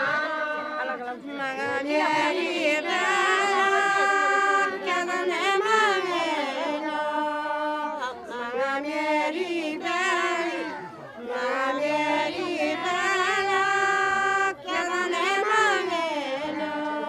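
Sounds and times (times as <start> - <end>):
women singing folk song: 0.0 - 17.0.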